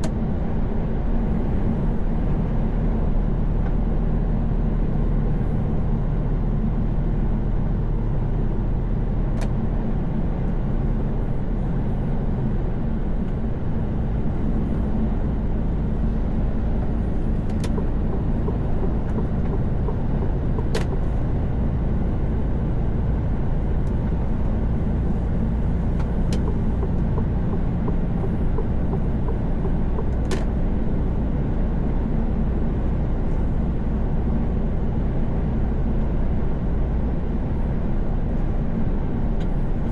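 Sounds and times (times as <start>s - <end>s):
truck engine and tyre drone: 0.0s - 39.9s.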